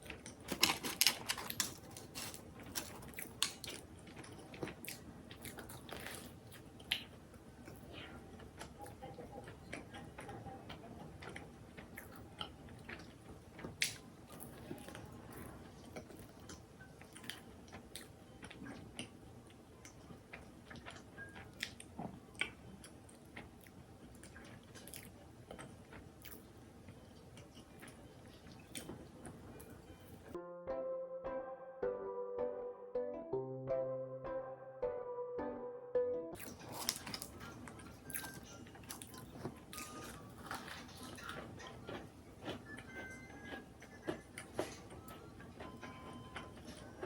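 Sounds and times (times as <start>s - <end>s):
person chewing: 0.0s - 29.8s, 36.4s - 47.0s.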